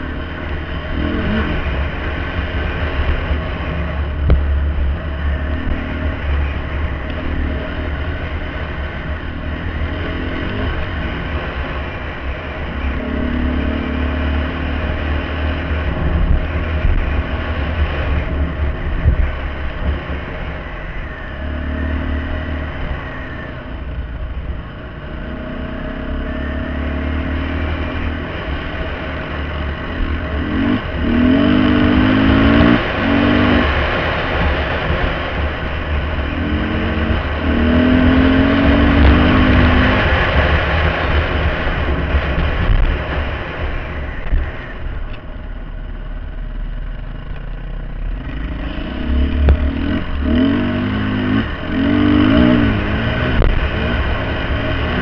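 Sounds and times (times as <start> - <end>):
dirt bike engine revving: 0.0 - 20.4, 25.2 - 43.6, 48.0 - 55.0.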